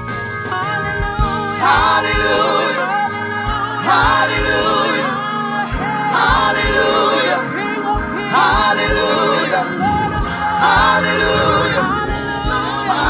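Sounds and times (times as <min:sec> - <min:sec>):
held chords accompaniment: 0:00.0 - 0:13.0
gospel group singing: 0:00.1 - 0:13.0
low steady beat: 0:00.8 - 0:05.1, 0:05.7 - 0:13.0.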